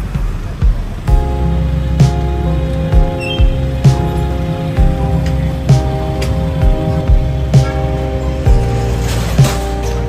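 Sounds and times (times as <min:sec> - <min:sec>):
music with heavy low drum beats: 0:00.0 - 0:10.0
held chord: 0:01.1 - 0:10.0.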